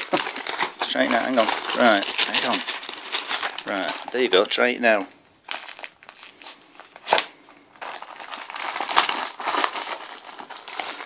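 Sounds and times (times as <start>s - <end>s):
wrapping paper crinkling and tearing: 0.0s - 11.0s.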